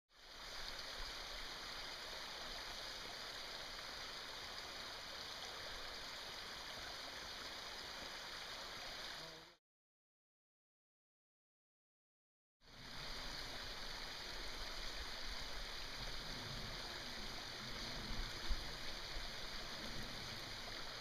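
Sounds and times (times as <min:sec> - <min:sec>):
creek running: 0:00.1 - 0:09.4, 0:12.6 - 0:21.0.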